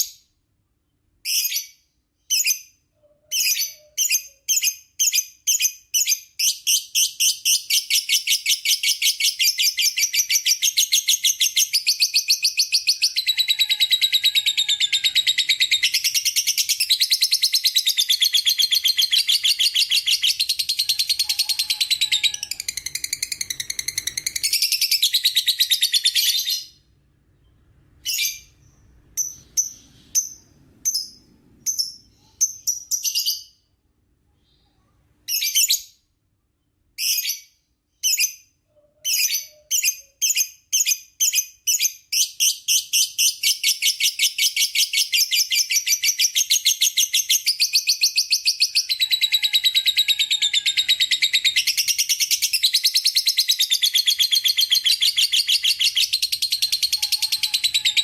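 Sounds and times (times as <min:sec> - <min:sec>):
lovebird chirping and chattering: 0:01.2 - 0:26.8, 0:27.4 - 0:33.6, 0:34.4 - 0:36.0, 0:37.0 - 0:58.0.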